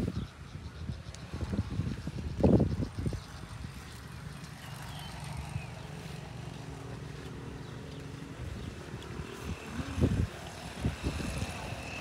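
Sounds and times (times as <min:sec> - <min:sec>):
motor engine droning: 0:01.4 - 0:12.0.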